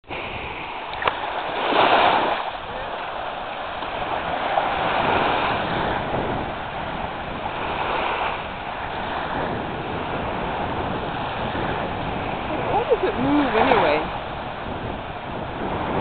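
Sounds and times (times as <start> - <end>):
small waves breaking: 0.0 - 16.0.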